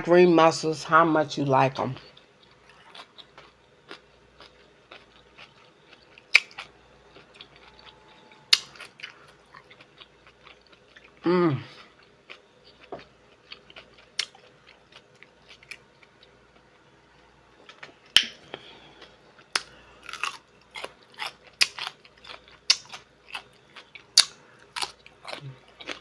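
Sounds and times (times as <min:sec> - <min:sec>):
chewing and biting: 0:02.1 - 0:16.7, 0:17.6 - 0:26.0.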